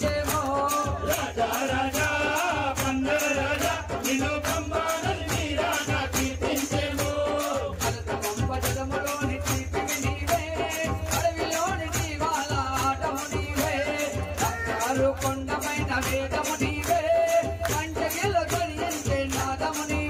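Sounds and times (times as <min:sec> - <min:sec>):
person singing: 0:00.0 - 0:20.0
rattling percussion beat: 0:00.0 - 0:20.0.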